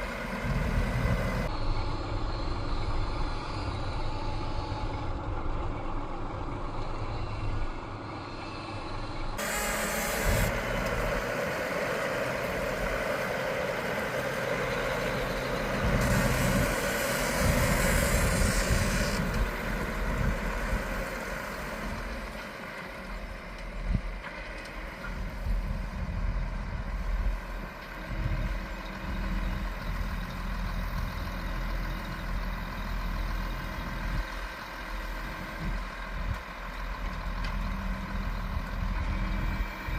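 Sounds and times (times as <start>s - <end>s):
farm machinery engines running: 0.0s - 39.9s.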